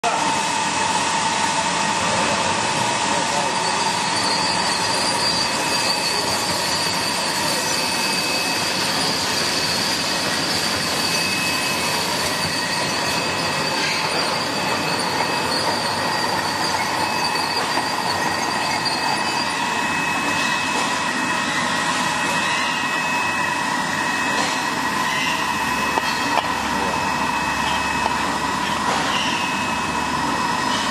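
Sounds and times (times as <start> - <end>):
high machine whines: 0.0 - 30.9.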